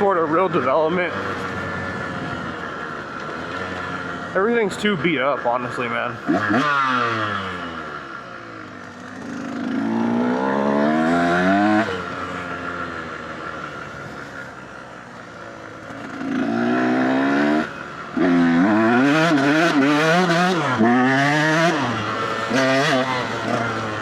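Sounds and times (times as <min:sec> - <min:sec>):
dirt bike engine revving: 0:00.0 - 0:15.0, 0:15.7 - 0:24.0.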